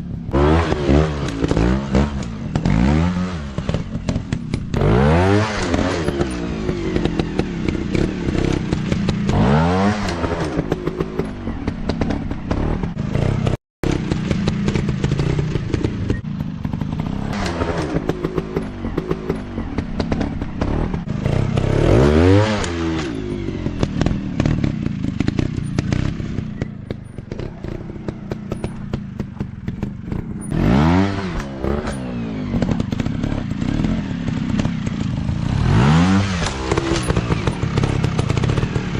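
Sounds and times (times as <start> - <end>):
clatter over rough ground: 0.0 - 38.9
motorbike engines revving: 0.0 - 38.9.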